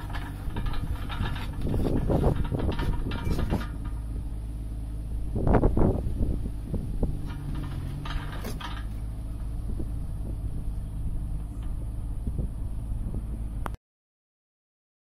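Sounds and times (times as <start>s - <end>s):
excavator diesel engine running: 0.0s - 13.8s.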